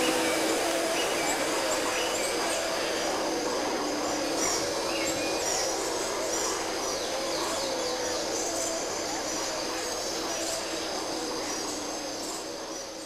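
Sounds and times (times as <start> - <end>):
low drone: 0.0 - 13.0.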